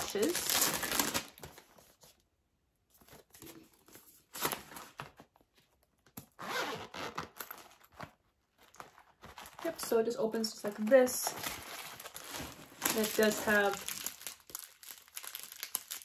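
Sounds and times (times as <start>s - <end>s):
packaging rustling and tearing: 0.0s - 2.2s, 3.0s - 5.4s, 6.2s - 16.0s.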